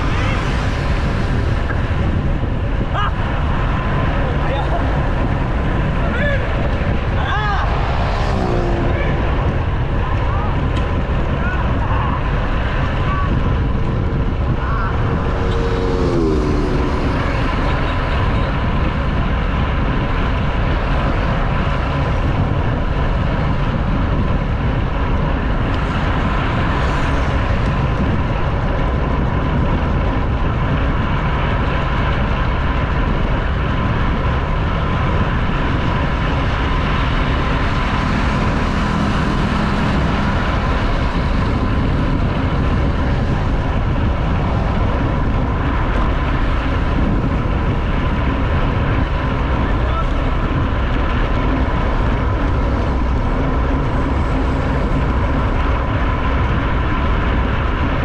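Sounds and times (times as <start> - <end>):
motor traffic: 0.0 - 58.0
road noise: 0.0 - 58.0
wind rush: 0.0 - 58.0.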